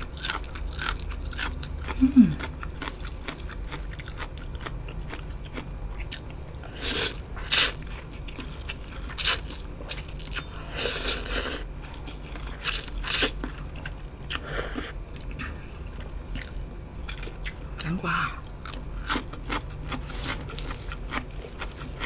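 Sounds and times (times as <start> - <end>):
crunching bites and chewing: 0.2 - 14.4, 15.1 - 22.0.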